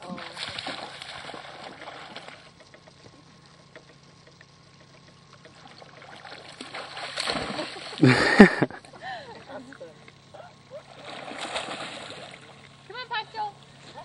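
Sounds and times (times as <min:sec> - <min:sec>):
water trickling and lapping: 0:00.0 - 0:14.0.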